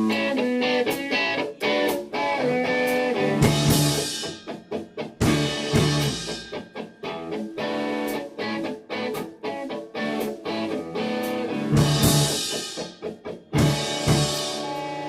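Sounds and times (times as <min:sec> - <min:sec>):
drum kit: 0:00.0 - 0:15.0
electric guitar chords: 0:00.0 - 0:15.0.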